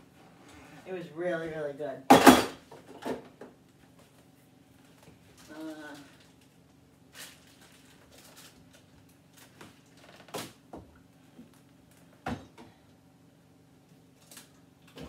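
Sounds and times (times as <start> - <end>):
faint refrigerator hum: 0.0 - 15.0.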